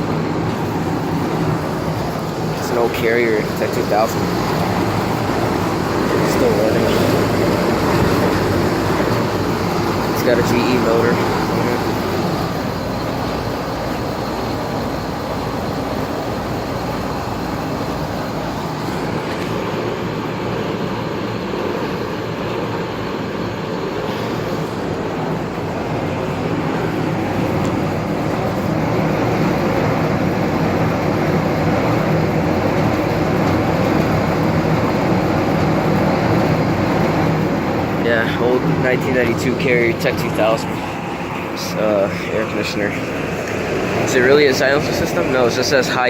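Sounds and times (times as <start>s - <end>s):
air conditioner compressor hum: 0.0s - 46.0s
condenser fan rushing: 0.0s - 46.0s.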